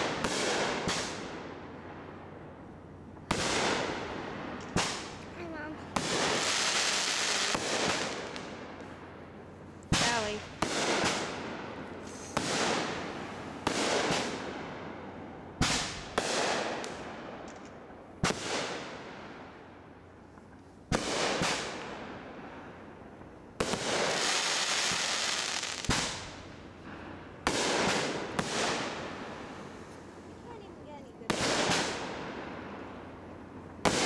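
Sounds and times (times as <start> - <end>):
steady crackling hiss: 0.0 - 34.0.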